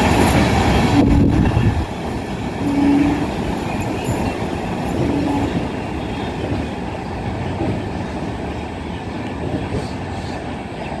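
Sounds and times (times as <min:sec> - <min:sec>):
train passing on track: 0:00.0 - 0:11.0.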